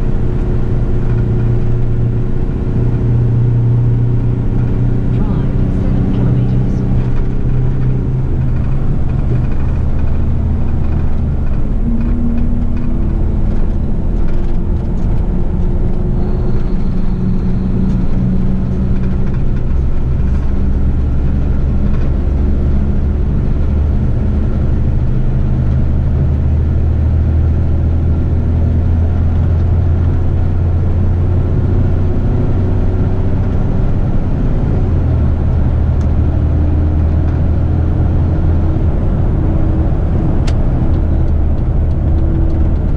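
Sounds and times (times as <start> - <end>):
truck diesel engine droning: 0.0 - 42.9.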